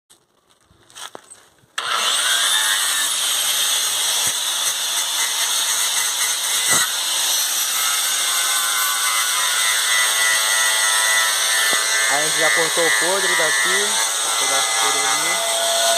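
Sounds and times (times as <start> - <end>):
angle grinder cutting sheet steel: 1.8 - 15.9.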